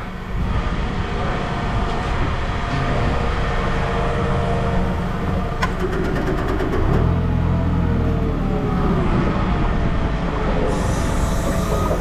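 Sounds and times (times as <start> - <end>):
large machine running: 0.0 - 12.0.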